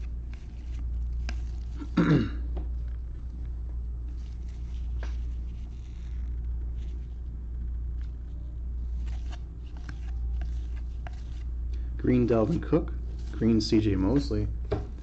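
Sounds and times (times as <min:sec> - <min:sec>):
steady low hum: 0:00.0 - 0:15.0
trading cards being handled: 0:00.0 - 0:15.0.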